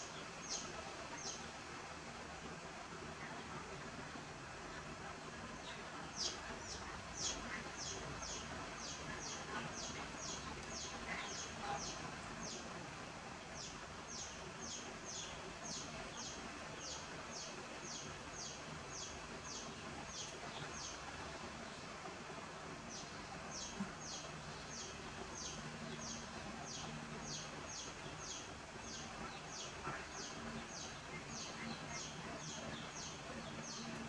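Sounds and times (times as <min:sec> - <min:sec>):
background hiss: 0:00.0 - 0:34.0.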